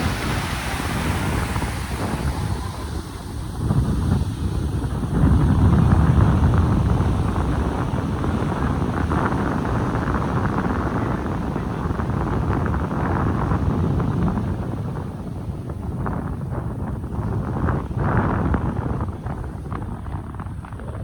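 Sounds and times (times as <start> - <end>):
ocean waves washing: 0.0 - 21.0
wind buffeting microphone: 0.0 - 21.0.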